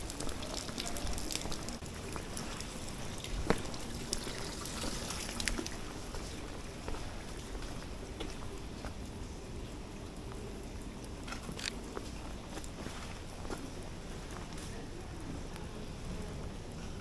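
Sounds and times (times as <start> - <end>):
rain on cobblestone street: 0.0 - 17.0.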